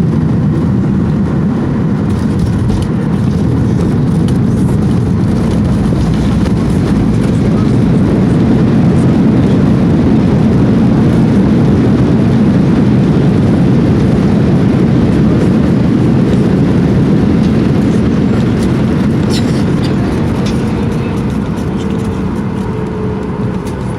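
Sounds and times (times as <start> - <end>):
jet airliner rumbling on ground: 0.0 - 23.9.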